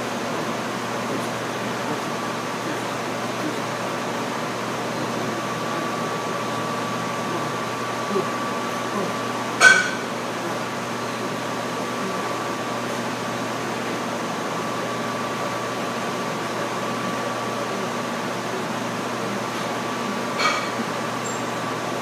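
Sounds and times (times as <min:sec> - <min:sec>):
room hum and hiss: 0:00.0 - 0:22.0
thin high whine: 0:00.0 - 0:22.0.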